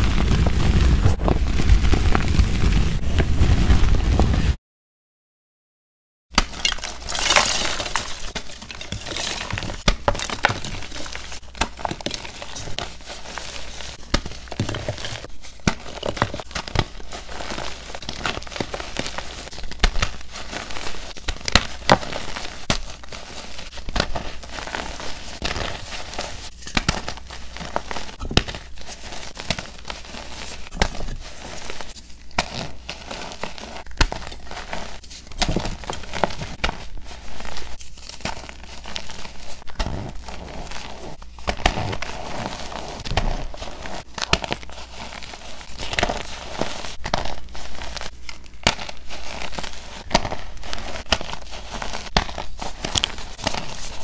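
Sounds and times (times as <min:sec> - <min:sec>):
chalk crunching and crumbling: 0:06.4 - 0:54.0.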